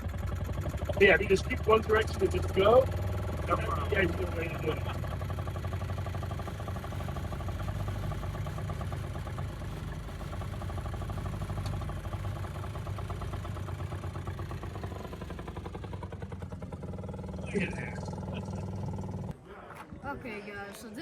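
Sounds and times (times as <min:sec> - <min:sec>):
small engine running steadily: 0:00.0 - 0:19.4.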